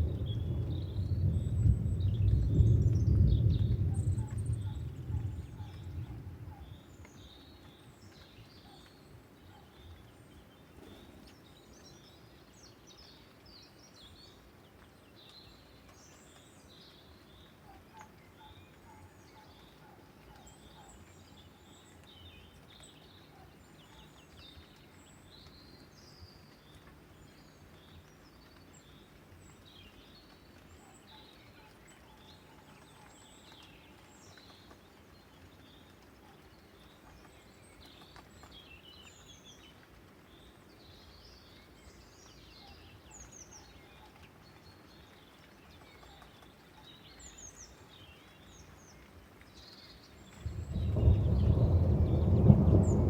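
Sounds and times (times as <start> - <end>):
birds chirping: 0.0 - 53.0
low background noise: 0.0 - 53.0.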